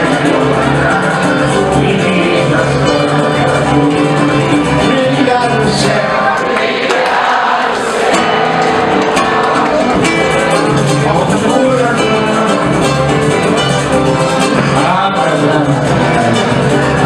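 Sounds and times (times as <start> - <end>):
samba percussion beat: 0.0 - 6.2, 8.1 - 17.0
plucked guitars: 0.0 - 17.0.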